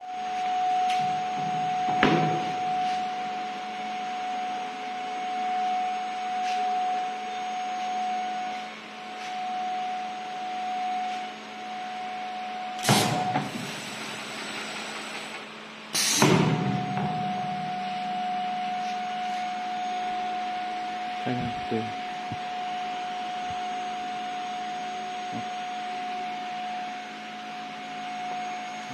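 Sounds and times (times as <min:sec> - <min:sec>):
welding machine whine and hum: 0:00.0 - 0:28.9.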